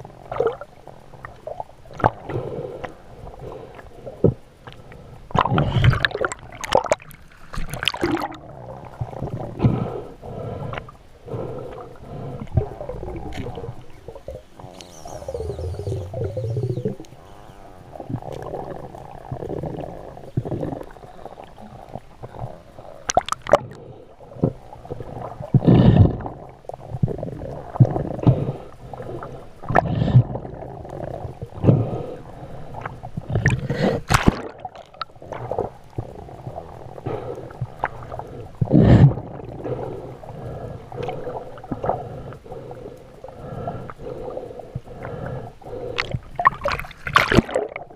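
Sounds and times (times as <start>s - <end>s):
water gurgling and sloshing: 0.0s - 47.9s.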